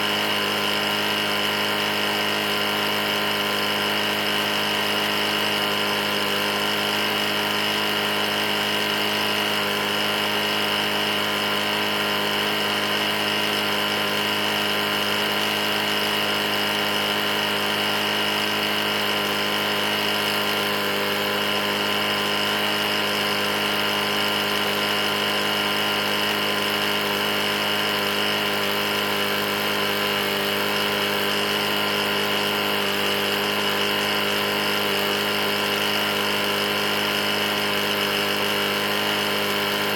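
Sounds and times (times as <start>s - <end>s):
lawnmower engine knocking: 0.0s - 39.9s.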